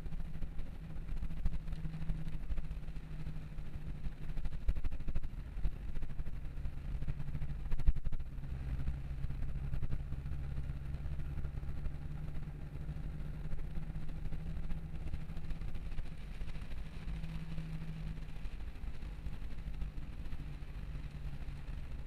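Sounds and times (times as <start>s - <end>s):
car engine hum from cabin: 0.0s - 22.0s.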